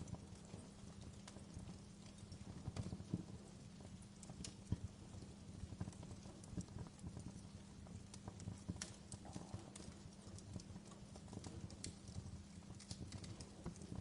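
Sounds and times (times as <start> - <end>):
fire crackling and popping: 0.0 - 14.0
low rumble of burning wood: 0.0 - 14.0.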